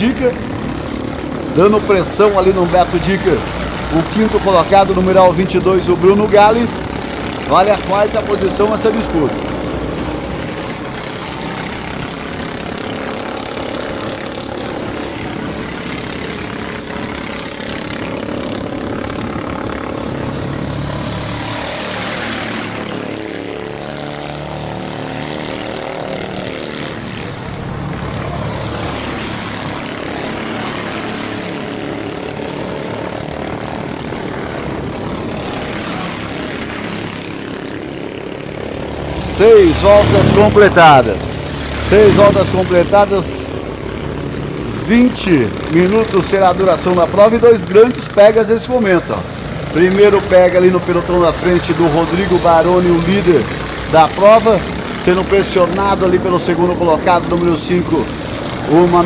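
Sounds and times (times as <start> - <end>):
kart engines buzzing: 0.0 - 59.0.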